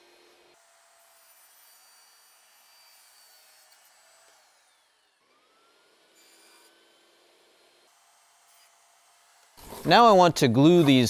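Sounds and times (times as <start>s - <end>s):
faint table saw cutting: 0.0s - 11.0s.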